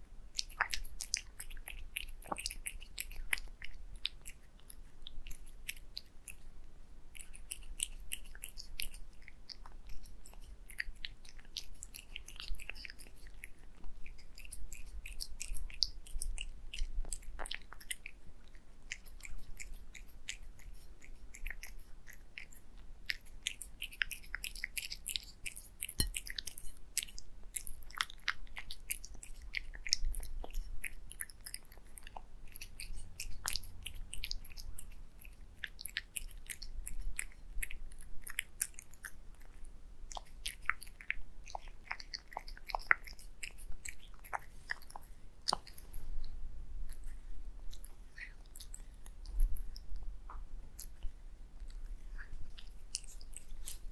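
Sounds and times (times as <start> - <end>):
cat licking and chewing food: 0.0 - 53.9.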